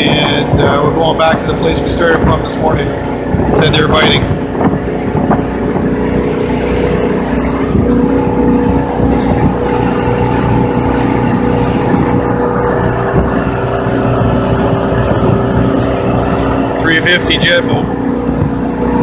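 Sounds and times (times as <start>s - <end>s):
motorboat engine drone: 0.0s - 19.0s
water rushing: 0.0s - 19.0s
wind: 0.0s - 19.0s.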